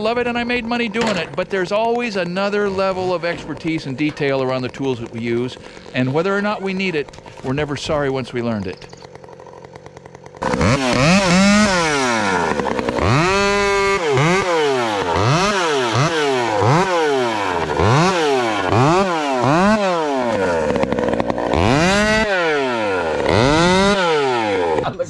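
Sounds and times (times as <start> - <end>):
chainsaw revving: 0.0 - 25.0.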